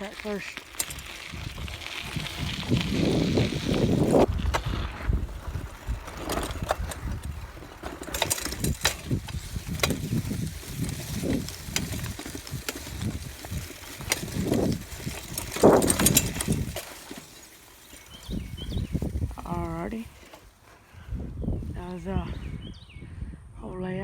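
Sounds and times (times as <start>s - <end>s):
bike rattling and clicking: 0.0s - 21.7s
wind buffeting microphone: 0.2s - 24.0s.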